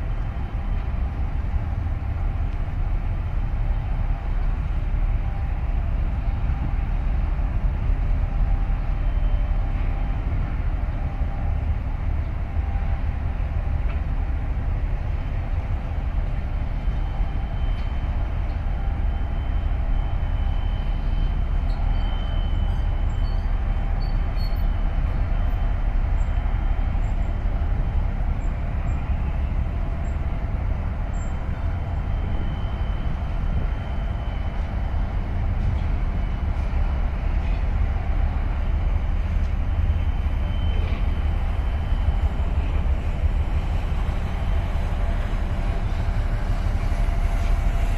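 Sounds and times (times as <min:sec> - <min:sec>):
ship engines rumbling: 0:00.0 - 0:47.9.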